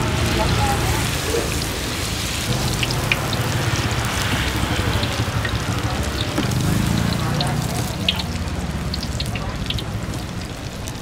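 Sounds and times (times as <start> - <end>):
fritters deep-frying in oil: 0.0 - 11.0.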